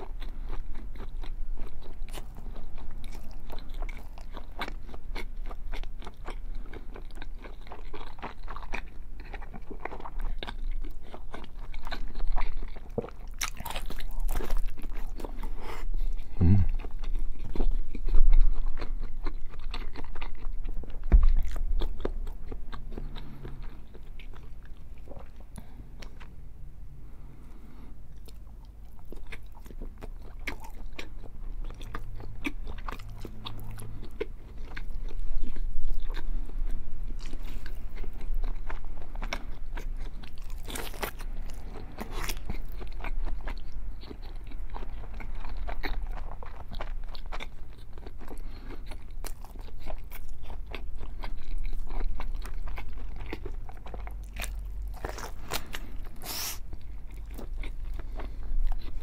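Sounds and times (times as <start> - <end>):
person biting and chewing: 0.0 - 26.3, 28.1 - 59.0.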